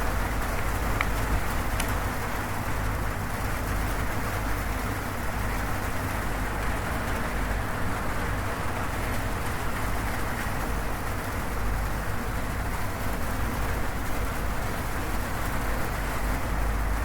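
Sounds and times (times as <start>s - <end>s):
heavy rain on a metal roof: 0.0s - 17.0s.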